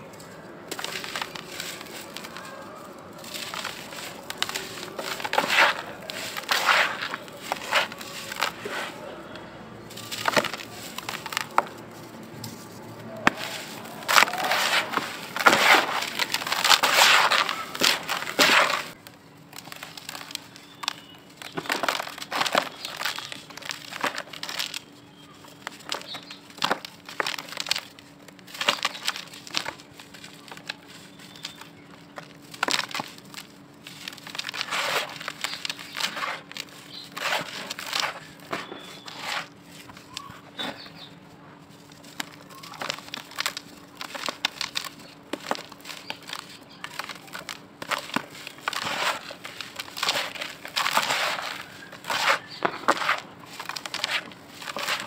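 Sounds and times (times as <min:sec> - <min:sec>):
powder block crunching by hand: 0:00.0 - 0:55.0.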